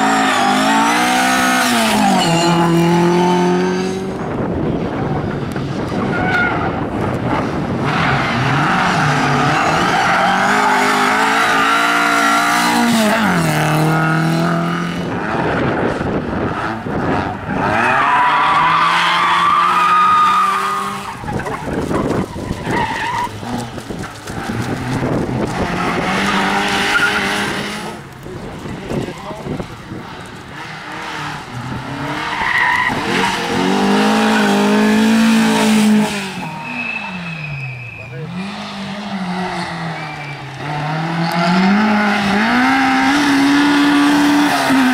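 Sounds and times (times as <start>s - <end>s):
rally car engines revving past: 0.0s - 44.9s.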